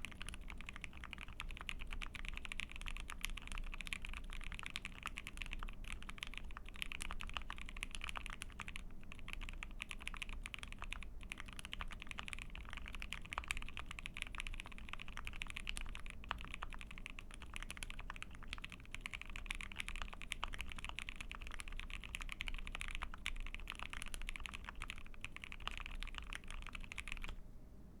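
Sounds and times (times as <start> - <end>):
mechanical keyboard typing: 0.0 - 27.4.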